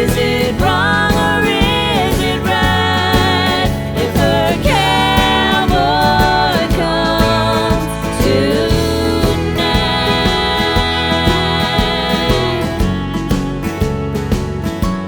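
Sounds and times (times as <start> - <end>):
sliding lead melody: 0.0 - 15.0
steady beat and bass: 0.0 - 15.0.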